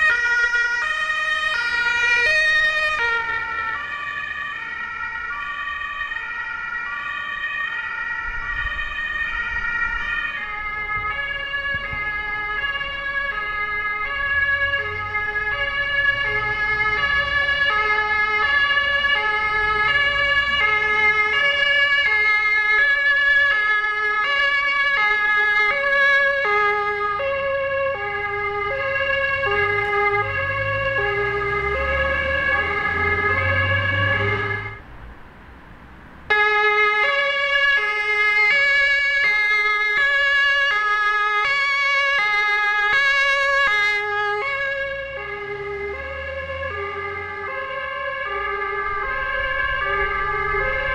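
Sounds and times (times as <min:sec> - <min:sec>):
two-tone sirens: 0:00.0 - 0:35.2, 0:36.2 - 0:50.9
ambulance engines and tyres rumbling: 0:00.0 - 0:50.9.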